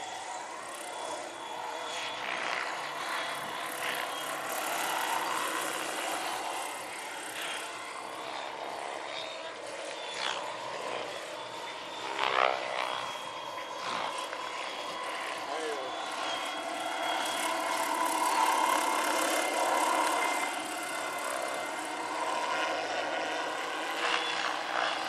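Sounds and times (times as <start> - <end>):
electric motor whine: 0.0 - 25.0
helicopter rotor blade whoosh: 0.0 - 25.0.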